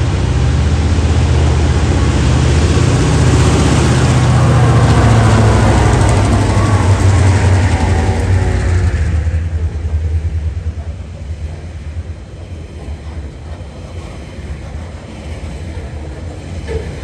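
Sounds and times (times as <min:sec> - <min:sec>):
diesel locomotive rumbling: 0:00.0 - 0:17.0
wagons rolling on rails: 0:00.0 - 0:17.0.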